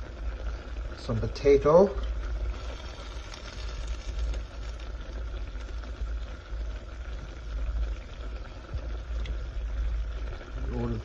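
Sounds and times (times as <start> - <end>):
stew bubbling in a pot: 0.0 - 11.0.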